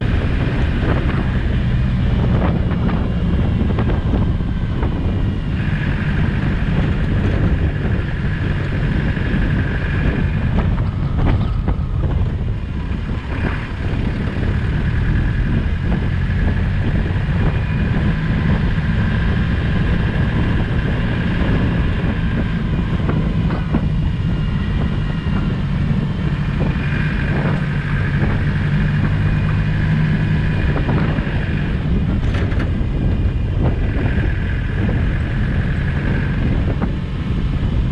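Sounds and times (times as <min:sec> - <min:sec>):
diesel engine running: 0:00.0 - 0:37.9
high whine: 0:00.0 - 0:37.9
wind on microphone: 0:00.0 - 0:37.9.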